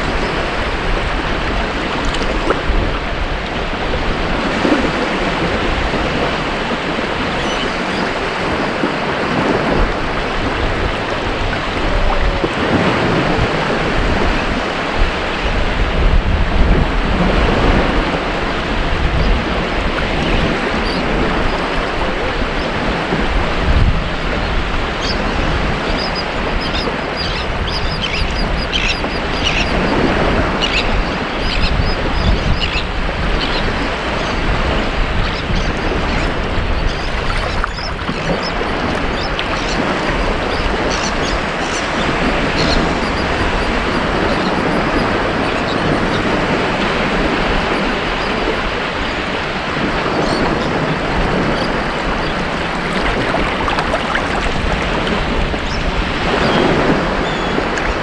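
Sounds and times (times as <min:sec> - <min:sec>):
ocean surf washing on beach: 0:00.0 - 0:27.4, 0:32.9 - 0:58.0.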